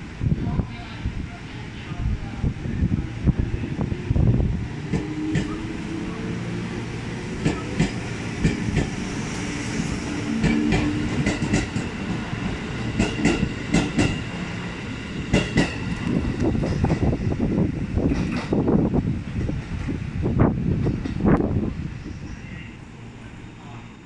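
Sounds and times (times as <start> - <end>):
electric train running hum: 0.0 - 24.0.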